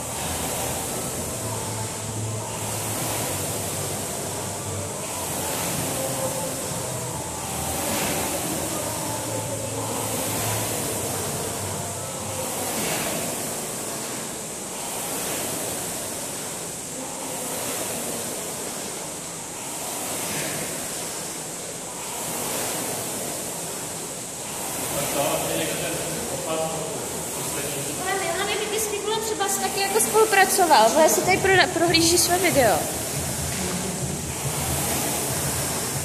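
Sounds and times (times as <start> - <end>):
rowing machine fan whooshing: 0.0 - 36.0.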